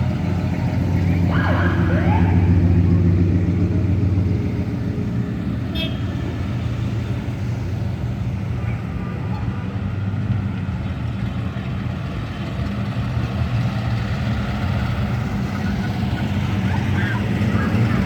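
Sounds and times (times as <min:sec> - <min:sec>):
car engines rumbling past: 0:00.0 - 0:18.0.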